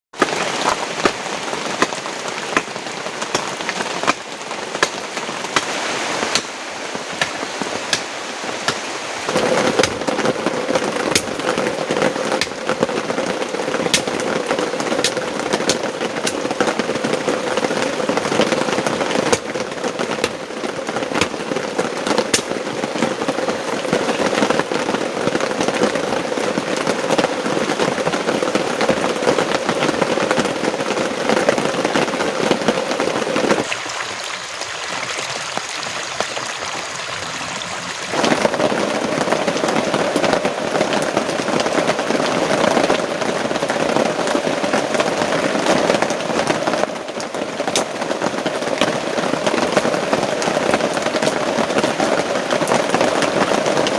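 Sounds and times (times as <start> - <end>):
heavy rain falling: 0.1 - 53.9.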